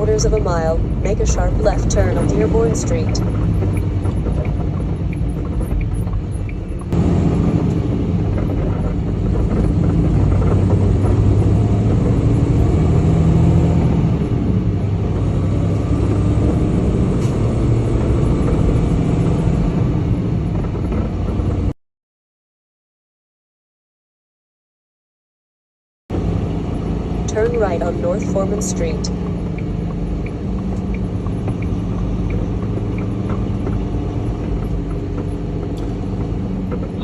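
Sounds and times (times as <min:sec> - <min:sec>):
truck engine and road noise: 0:00.0 - 0:21.8, 0:26.1 - 0:37.0.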